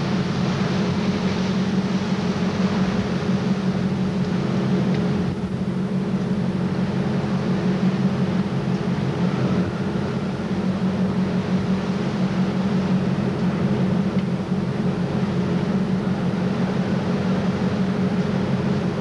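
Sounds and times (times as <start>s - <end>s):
boat engines humming: 0.0s - 19.0s.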